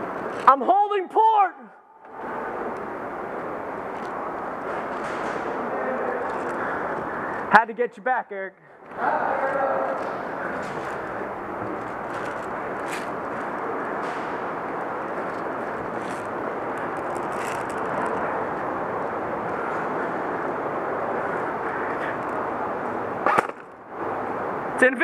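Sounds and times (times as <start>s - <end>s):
steady rushing noise: 2.0s - 7.6s, 8.8s - 25.0s.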